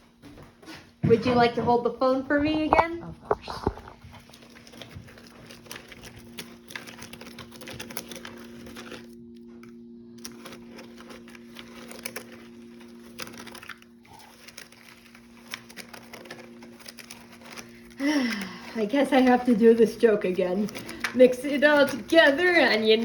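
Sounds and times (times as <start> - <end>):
steady low hum: 0.0 - 23.0
spoon stirring crunchy cereal: 2.3 - 23.0.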